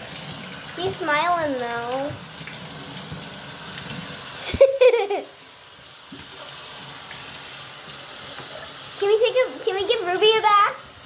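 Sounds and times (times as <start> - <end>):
tap water running into bathtub: 0.0 - 11.0.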